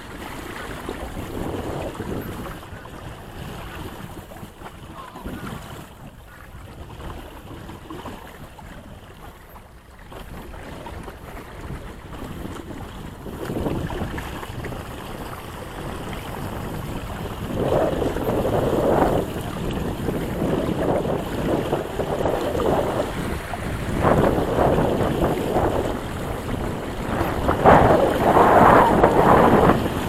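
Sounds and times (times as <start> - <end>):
water washing along hull: 0.0 - 30.0
wind buffeting microphone: 0.0 - 30.0.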